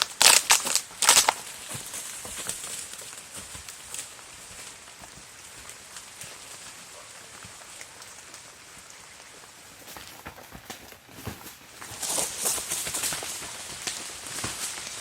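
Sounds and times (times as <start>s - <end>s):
rain patter: 0.0s - 15.0s.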